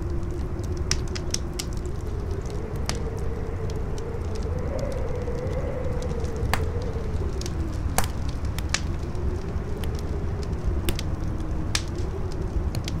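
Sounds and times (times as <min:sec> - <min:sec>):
campfire crackling and popping: 0:00.0 - 0:13.0
low wind noise: 0:00.0 - 0:13.0
wavering wind howl: 0:00.0 - 0:13.0.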